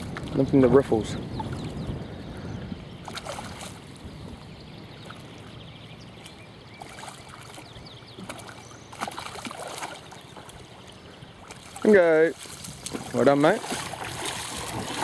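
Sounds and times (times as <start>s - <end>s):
river water over gravel: 0.0s - 15.0s.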